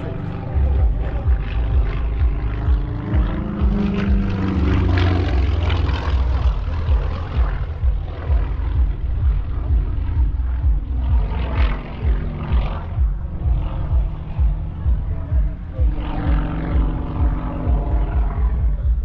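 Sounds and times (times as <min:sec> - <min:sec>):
propeller aircraft engine: 0:00.0 - 0:19.0.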